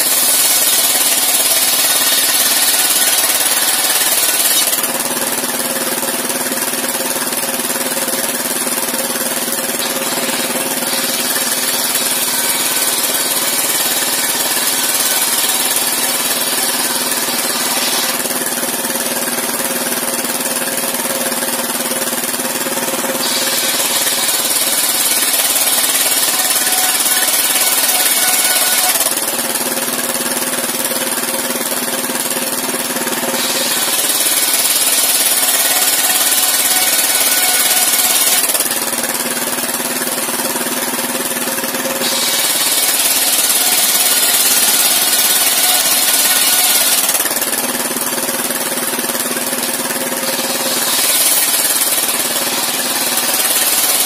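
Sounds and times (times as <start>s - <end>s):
circular saw blade cutting wood: 0.0s - 54.0s
saw engine running steadily: 0.0s - 54.0s.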